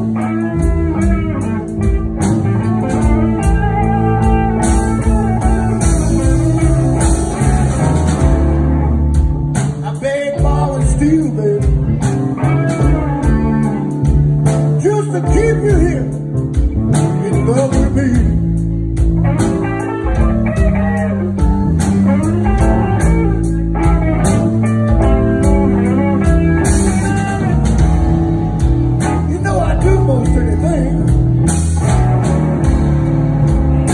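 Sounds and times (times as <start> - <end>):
electric guitar lead bends: 0.0 - 33.9
live blues band: 0.0 - 33.9.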